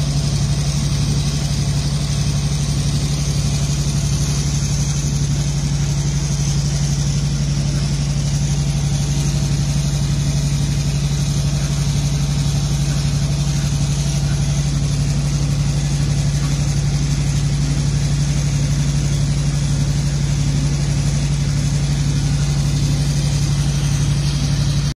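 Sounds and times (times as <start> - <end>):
diesel engine with low hum: 0.0 - 24.9
low pulsing beat: 0.0 - 24.9.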